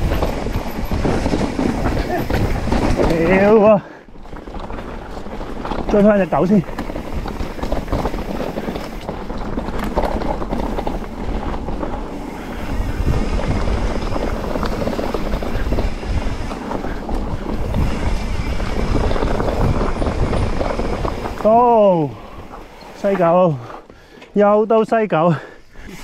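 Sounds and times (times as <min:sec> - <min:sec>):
wind buffeting microphone: 0:00.0 - 0:24.1
bike moving over trail: 0:00.0 - 0:26.0.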